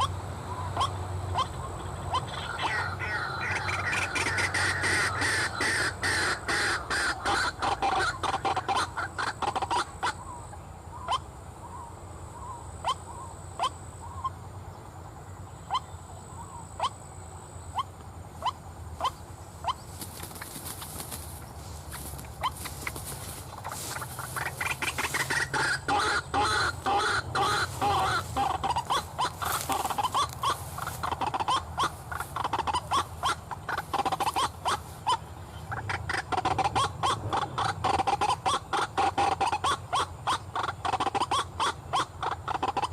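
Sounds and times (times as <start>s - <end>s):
bird croaking calls: 0.0s - 14.7s, 15.5s - 42.9s.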